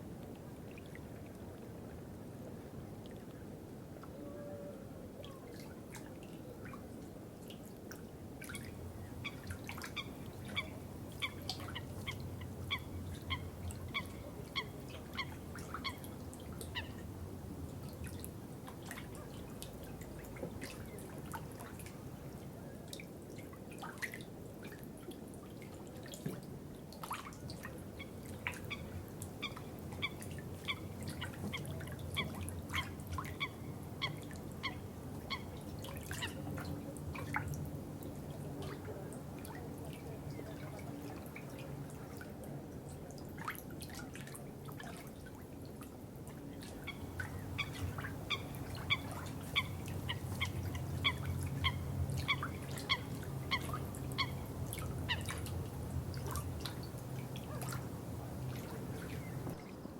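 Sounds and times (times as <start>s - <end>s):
low water trickle: 0.0s - 59.9s.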